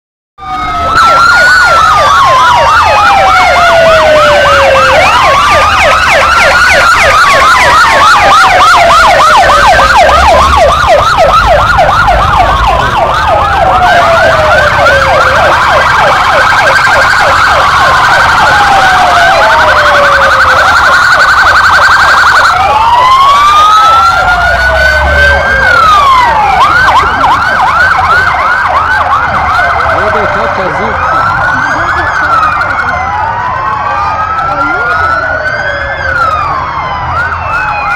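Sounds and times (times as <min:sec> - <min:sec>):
police sirens wailing and yelping: 0:00.4 - 0:37.9.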